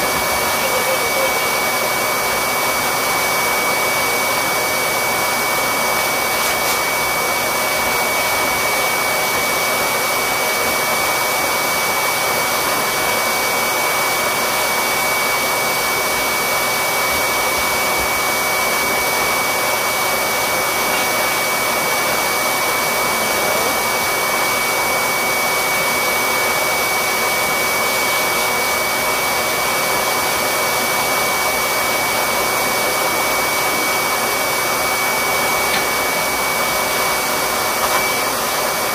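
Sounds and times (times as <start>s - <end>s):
electric blower motor running: 0.0s - 38.9s.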